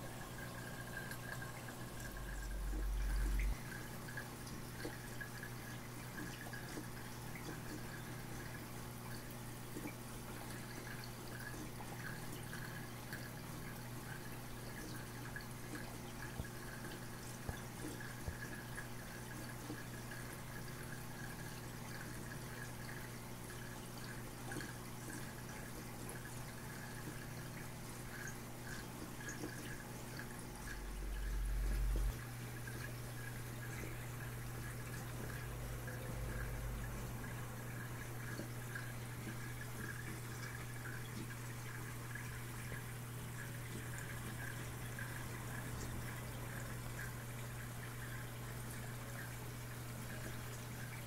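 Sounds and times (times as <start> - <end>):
low equipment hum: 0.0 - 51.0
water trickling and dripping: 0.0 - 51.0.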